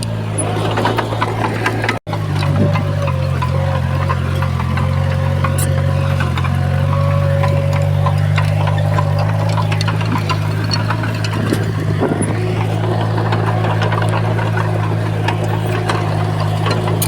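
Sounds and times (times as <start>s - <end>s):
bulldozer diesel engine running: 0.0s - 17.0s
clicks and clanks: 0.0s - 17.0s.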